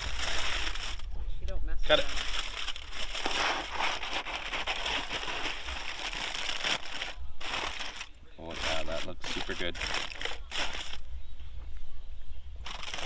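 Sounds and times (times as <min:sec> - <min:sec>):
foil crinkling: 0:00.0 - 0:11.1, 0:12.6 - 0:13.0.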